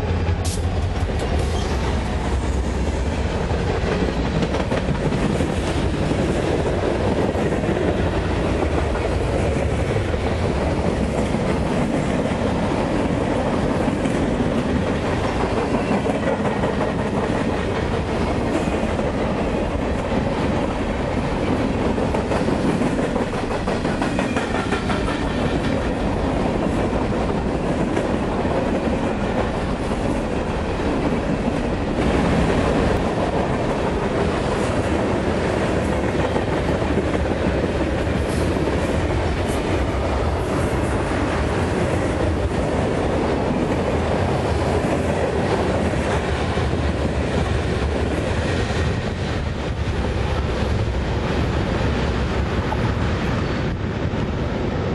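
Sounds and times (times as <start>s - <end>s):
steel train wheels on rails: 0.0s - 54.9s.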